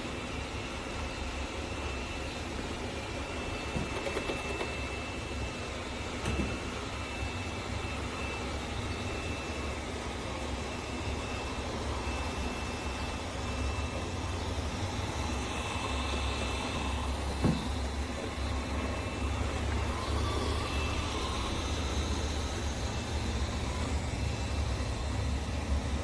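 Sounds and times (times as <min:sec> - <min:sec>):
robot vacuum humming: 0:00.0 - 0:26.0.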